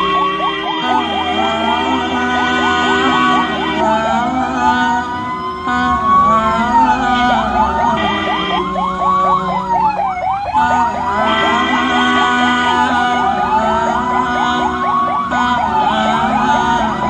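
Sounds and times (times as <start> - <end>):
ambulance sirens wailing: 0.0 - 17.0
rapid yelping siren warble: 0.0 - 17.0
steady siren tone: 0.0 - 17.0.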